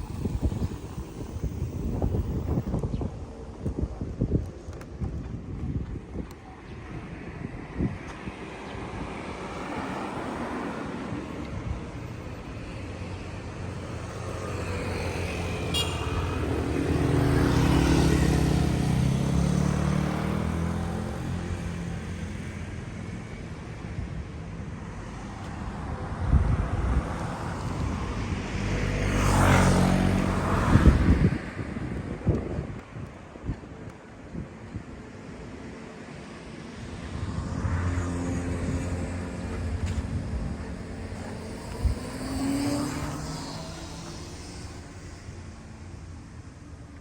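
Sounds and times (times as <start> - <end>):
outdoor background noise: 0.0 - 47.0
road vehicles passing by: 0.0 - 47.0.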